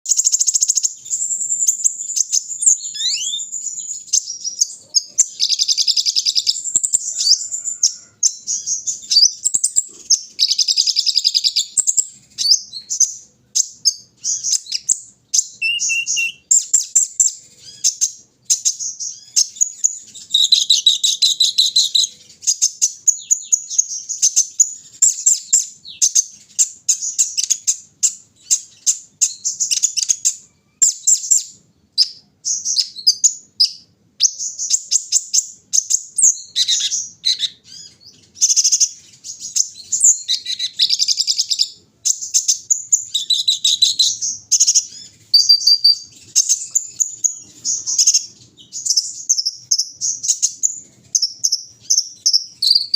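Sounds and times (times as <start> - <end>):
bird singing chirps and trills: 0.0 - 52.9.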